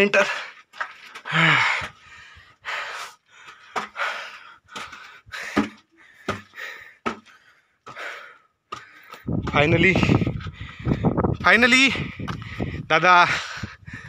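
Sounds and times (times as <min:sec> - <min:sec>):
person breathing heavily: 0:01.2 - 0:09.4, 0:10.1 - 0:11.2, 0:11.9 - 0:14.0.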